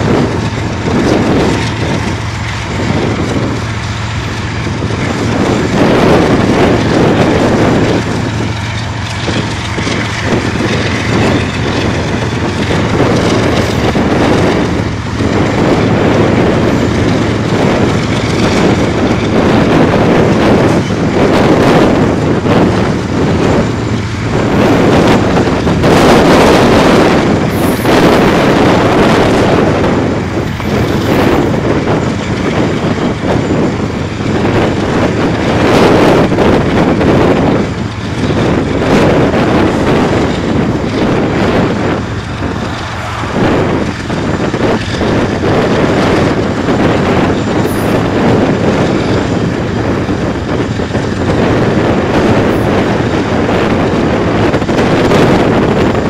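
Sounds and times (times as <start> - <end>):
diesel locomotive engine drone: 0.0 - 56.0
train wheels rumbling on rails: 0.0 - 56.0.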